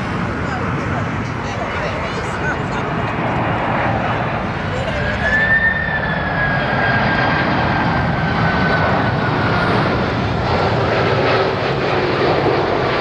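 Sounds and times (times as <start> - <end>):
jet airliner passing: 0.0 - 13.0
jet engine whine: 0.0 - 13.0.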